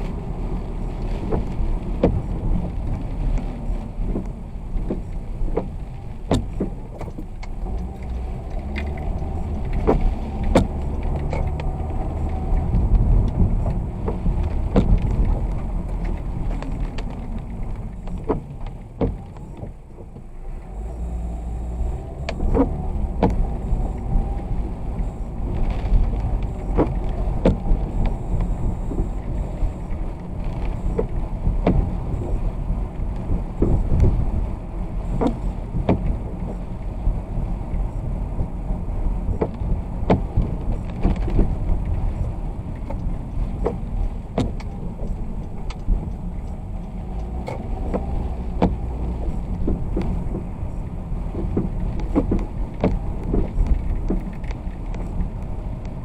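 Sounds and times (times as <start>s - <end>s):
tyre noise on wet road: 0.0s - 56.0s.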